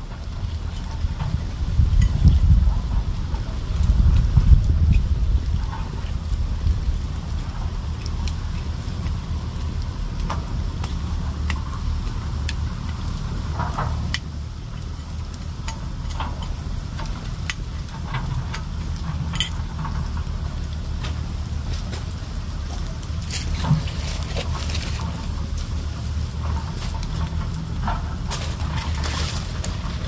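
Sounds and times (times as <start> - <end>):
wind rumble on microphone: 0.0 - 30.0
wood fire crackling and popping: 0.0 - 30.0.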